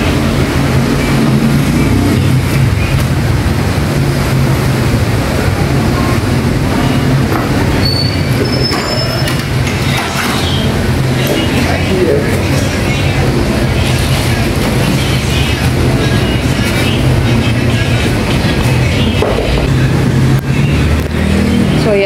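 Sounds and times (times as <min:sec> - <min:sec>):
mechanical hum and rumble: 0:00.0 - 0:22.0.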